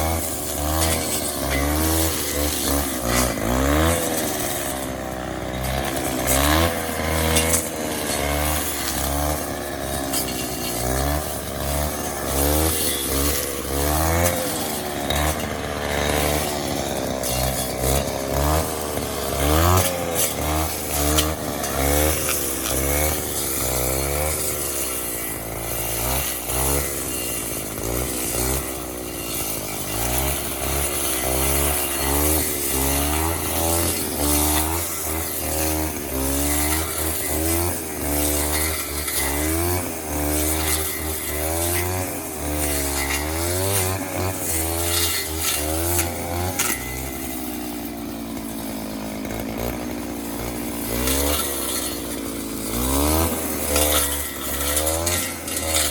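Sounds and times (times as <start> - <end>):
grass cutter engine revving: 0.0 - 55.9.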